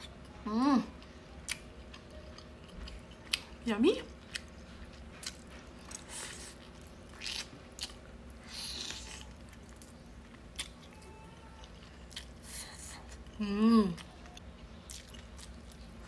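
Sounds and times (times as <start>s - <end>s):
person chewing meat: 1.0s - 16.0s.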